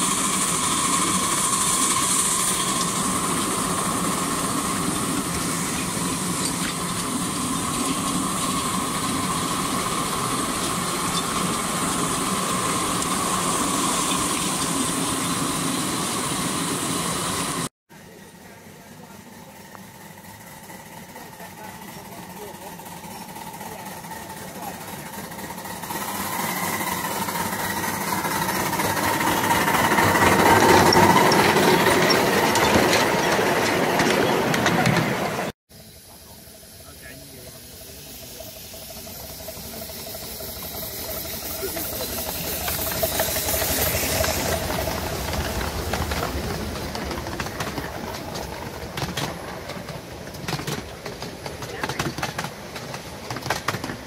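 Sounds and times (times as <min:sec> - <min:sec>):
carriage wheels rolling on rails: 0:00.0 - 0:17.6, 0:19.0 - 0:35.5, 0:37.0 - 0:54.0
miniature steam locomotive chuffing: 0:00.0 - 0:54.0.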